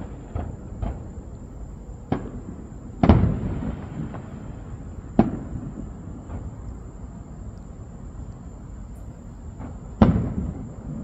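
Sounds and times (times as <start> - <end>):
fireworks booming: 0.0 - 7.4, 8.7 - 11.0.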